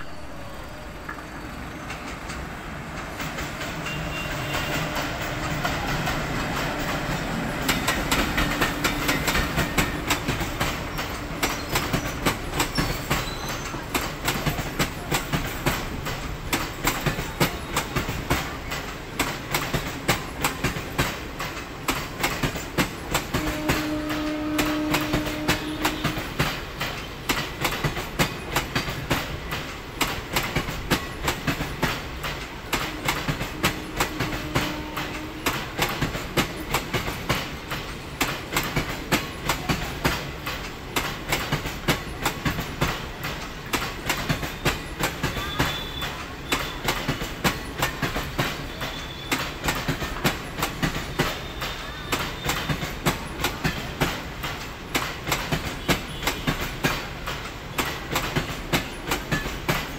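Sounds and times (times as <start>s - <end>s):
train coaches rumbling past: 0.0s - 59.9s
wheels clickety-clack over rail joints: 0.0s - 59.9s.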